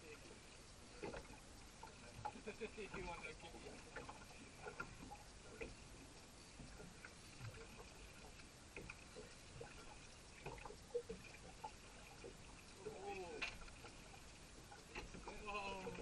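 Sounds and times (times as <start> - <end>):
water lapping at boat hull: 0.0 - 16.0.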